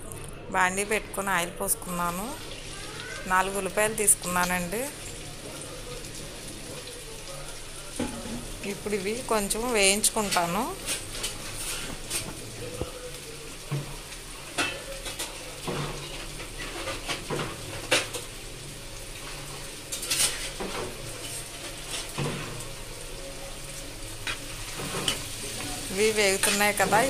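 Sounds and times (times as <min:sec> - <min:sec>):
onions sizzling in oil: 0:00.6 - 0:27.0.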